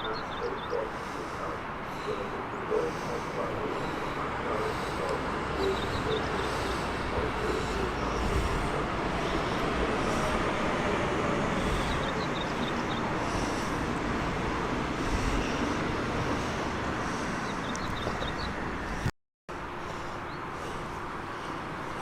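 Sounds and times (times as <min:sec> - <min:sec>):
train wheels rumbling on rail: 0:00.7 - 0:22.0.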